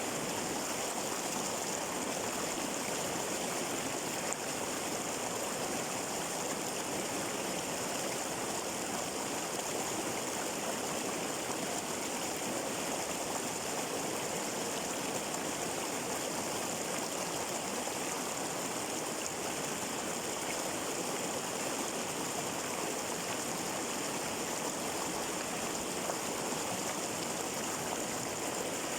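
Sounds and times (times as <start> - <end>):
flowing water: 0.0 - 28.9.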